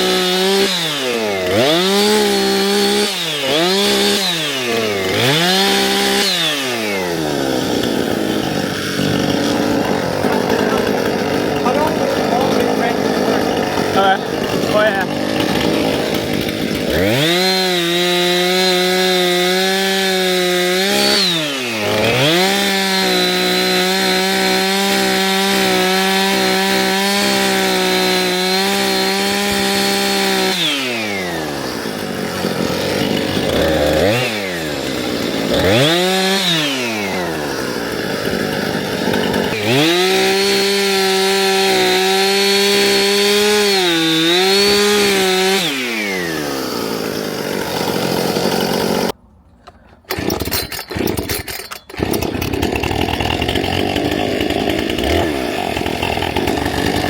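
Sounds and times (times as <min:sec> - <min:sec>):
small gas engine revving: 0:00.0 - 0:49.2, 0:50.0 - 0:57.0.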